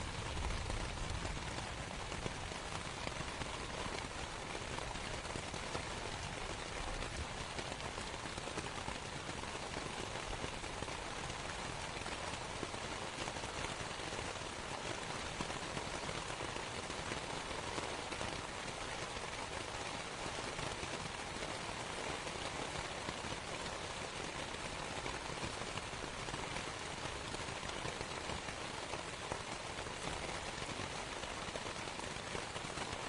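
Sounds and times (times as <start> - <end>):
rain falling on canvas: 0.0 - 33.0.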